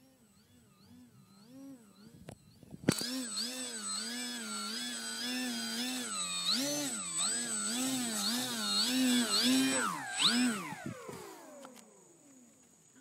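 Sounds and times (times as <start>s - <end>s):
electric model plane motor whining: 0.0s - 13.0s.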